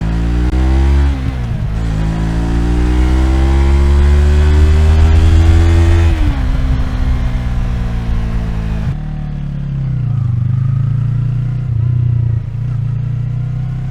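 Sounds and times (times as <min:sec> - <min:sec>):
motorcycle engine accelerating: 0:00.0 - 0:13.9.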